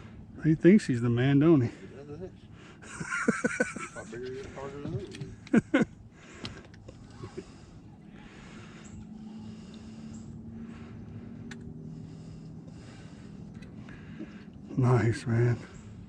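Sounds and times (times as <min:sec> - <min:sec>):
faint engine hum: 0:00.0 - 0:16.0.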